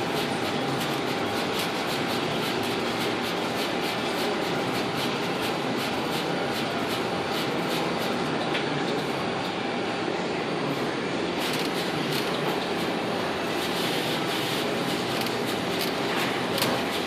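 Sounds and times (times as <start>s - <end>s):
machine whirring: 0.0s - 17.0s.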